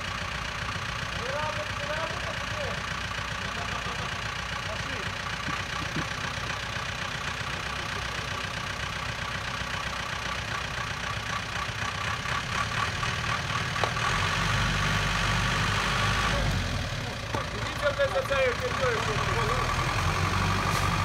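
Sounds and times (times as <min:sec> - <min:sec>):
off-road truck engine running: 0:00.0 - 0:21.0.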